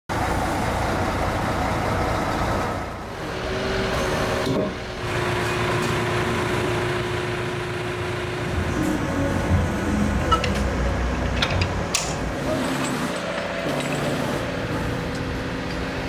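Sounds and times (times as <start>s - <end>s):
heavy diesel engine running: 0.1s - 16.0s.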